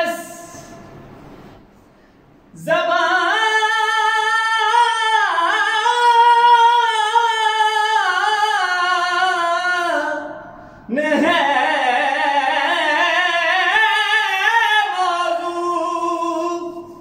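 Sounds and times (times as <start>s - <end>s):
man singing unaccompanied: 2.5s - 17.0s.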